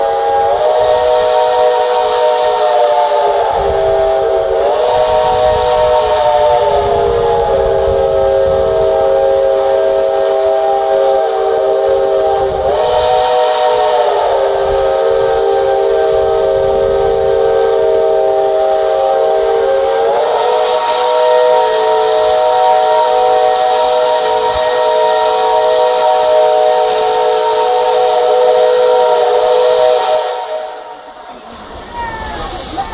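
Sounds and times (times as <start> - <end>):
steam locomotive whistle: 0.0 - 32.9.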